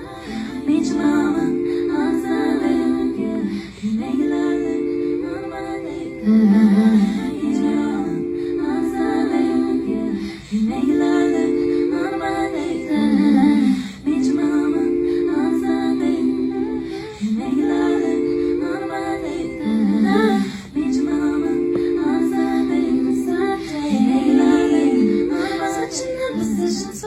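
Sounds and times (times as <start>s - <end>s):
women humming chords a cappella: 0.0s - 27.0s.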